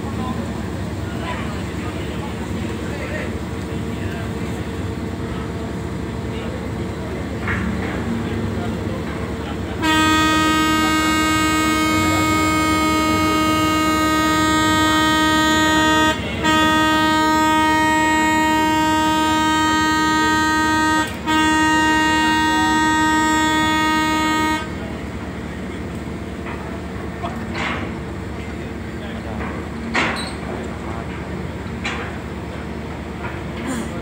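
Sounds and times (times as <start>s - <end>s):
ship's horn blasts: 0.1s - 34.0s.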